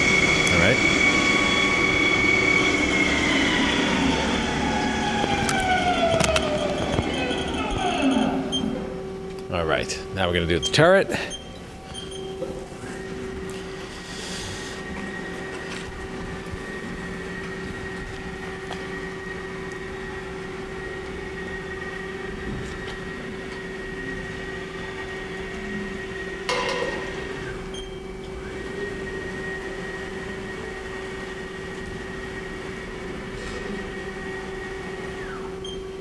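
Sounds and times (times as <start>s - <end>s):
lathe humming: 0.0s - 36.0s.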